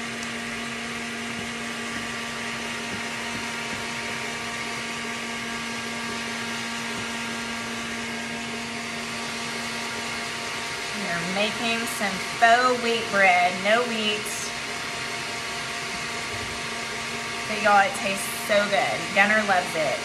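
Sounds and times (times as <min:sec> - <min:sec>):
stand mixer motor hum: 0:00.0 - 0:20.0.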